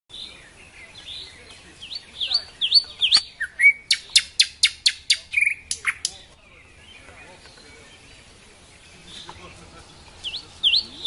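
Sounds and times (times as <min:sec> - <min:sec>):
nightingale singing: 0:00.1 - 0:11.0.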